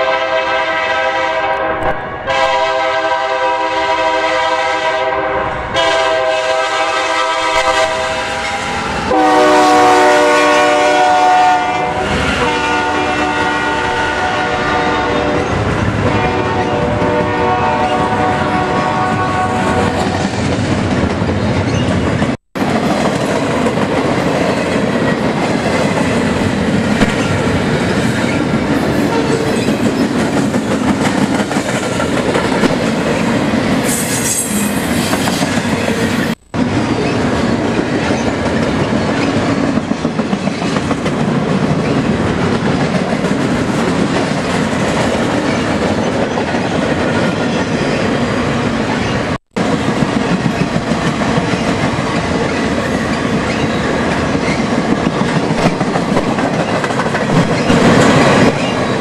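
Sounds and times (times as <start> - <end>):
train wheels rumbling and clattering: 5.5 - 59.0.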